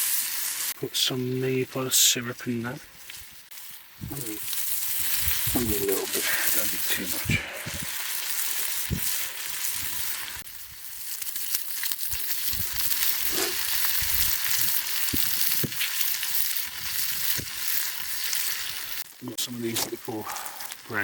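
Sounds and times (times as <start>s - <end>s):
bacon sizzling in a pan: 0.0s - 21.0s.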